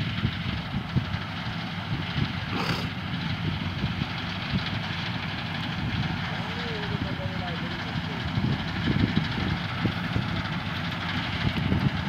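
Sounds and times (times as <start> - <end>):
combine harvester running: 0.0 - 12.0
low rumbling bumps: 0.0 - 12.0.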